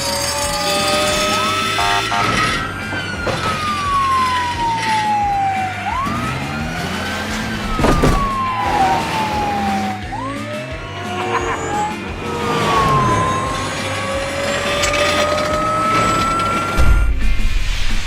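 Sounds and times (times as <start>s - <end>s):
cartoon police siren wailing: 0.0s - 17.1s.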